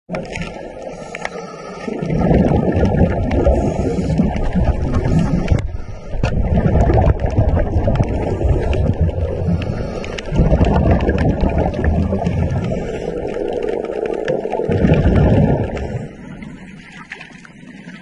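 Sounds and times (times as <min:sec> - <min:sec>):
muffled underwater rumble: 0:00.1 - 0:18.0.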